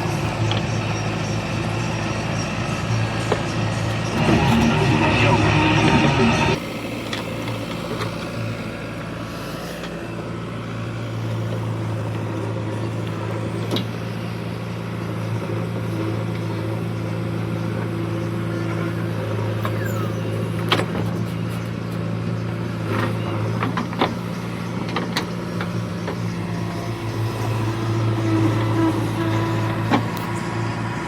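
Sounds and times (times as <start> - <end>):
diesel engine running steadily: 0.0 - 31.0.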